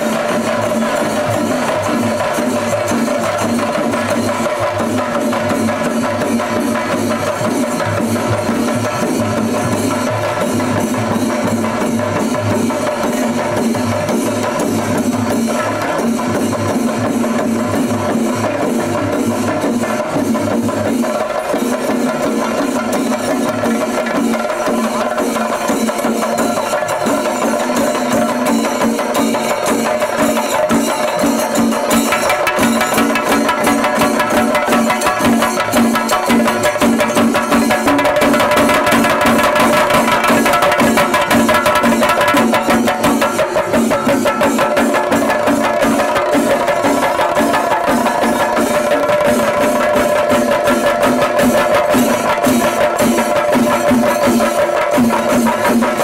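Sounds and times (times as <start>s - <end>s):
rapid drum strokes: 0.0s - 56.0s.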